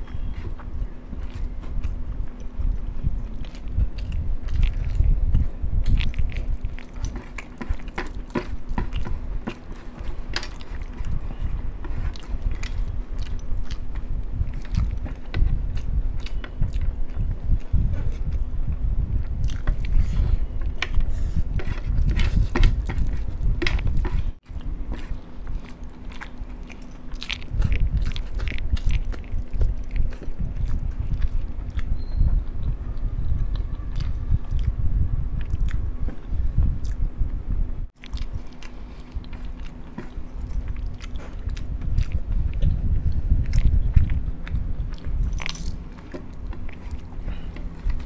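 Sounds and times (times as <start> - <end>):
chewing with mouth clicks: 0.0 - 37.1, 37.9 - 48.0
steady low hum: 0.0 - 48.0.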